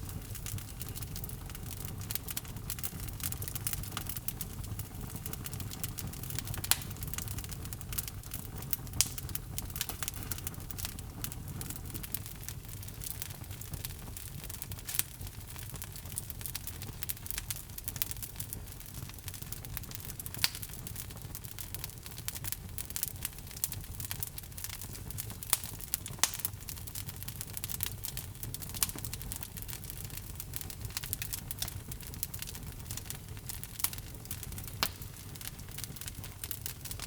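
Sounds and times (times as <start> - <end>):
low rumble of flames: 0.0 - 37.0
wood logs crackling and popping: 0.0 - 37.0.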